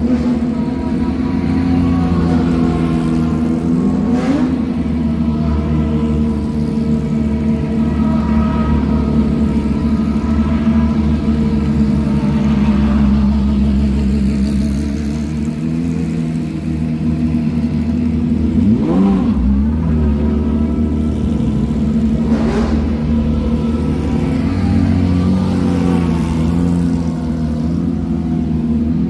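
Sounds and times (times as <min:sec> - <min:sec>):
race car engine idling: 0:00.0 - 0:29.0.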